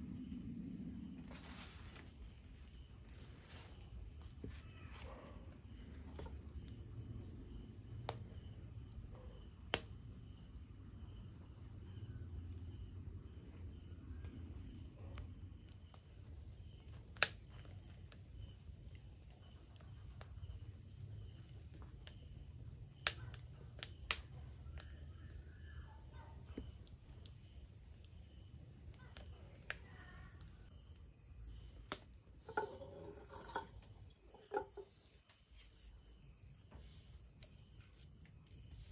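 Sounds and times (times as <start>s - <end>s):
crickets chirping: 0.0s - 38.9s
wood fire popping: 1.0s - 38.9s.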